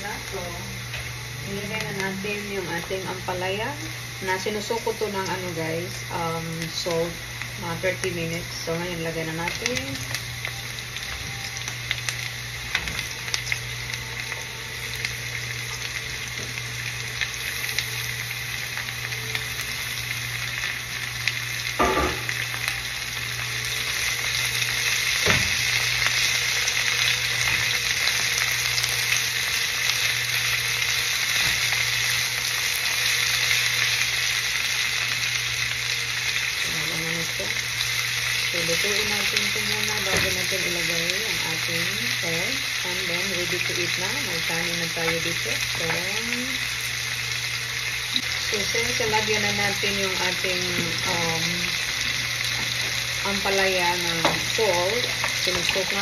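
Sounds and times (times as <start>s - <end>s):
vegetables sizzling in hot oil: 0.0s - 56.0s.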